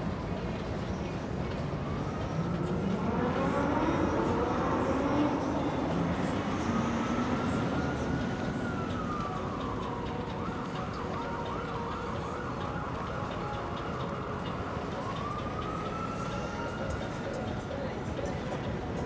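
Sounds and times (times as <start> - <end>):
emergency vehicle siren: 0.0 - 19.0.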